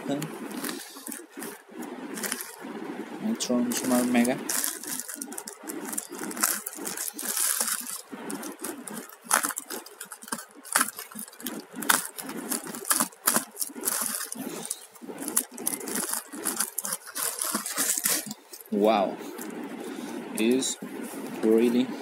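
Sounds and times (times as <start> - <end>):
plastic bag crinkling: 0.0 - 2.8, 3.4 - 19.7.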